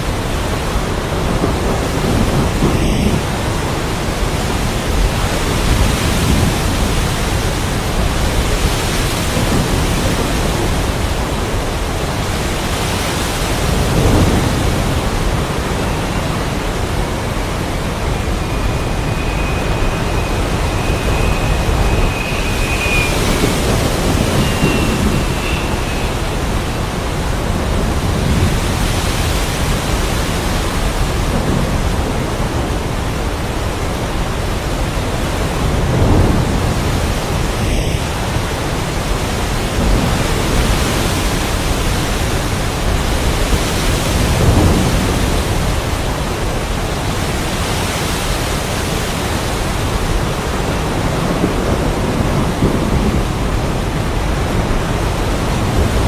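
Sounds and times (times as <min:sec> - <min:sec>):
rolling thunder: 0:00.0 - 0:47.3, 0:49.4 - 0:56.0
heavy rain hissing: 0:00.0 - 0:56.0.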